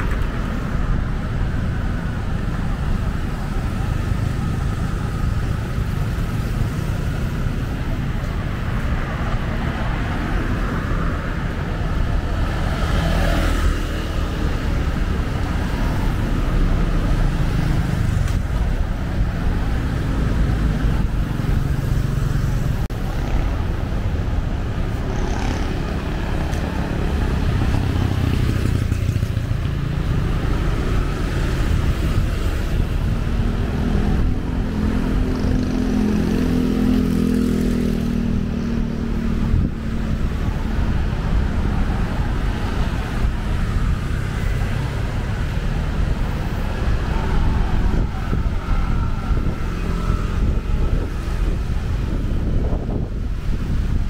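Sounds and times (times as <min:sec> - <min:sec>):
vehicle engines passing: 0:00.0 - 0:54.0.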